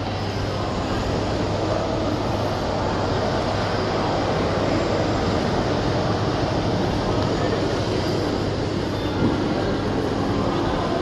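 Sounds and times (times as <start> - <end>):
busy indoor crowd ambience: 0.0 - 11.0.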